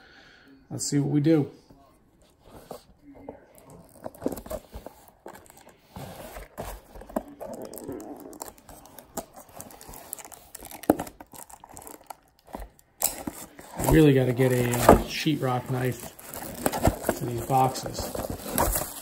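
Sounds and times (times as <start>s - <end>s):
handling knocks and scrapes: 2.2s - 11.1s, 11.8s - 19.0s
cardboard tearing and crinkling: 3.6s - 19.0s.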